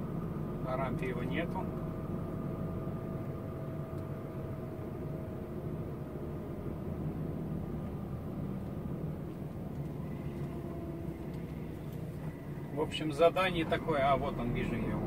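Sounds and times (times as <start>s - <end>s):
diesel engine low rumble: 0.0s - 15.0s
faint steady whine: 0.0s - 15.0s.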